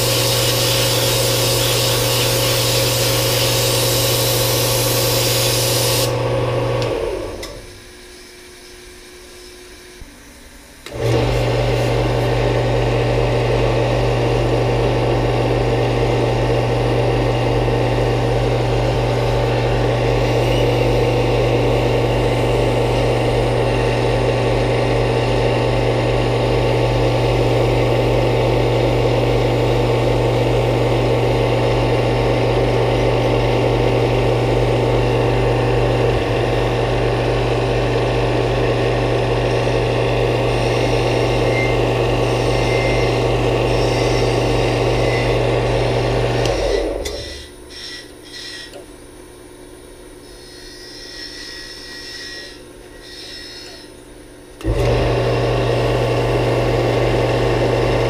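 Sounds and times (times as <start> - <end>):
wood lathe motor humming: 0.0 - 7.6, 10.9 - 48.8, 54.6 - 58.0.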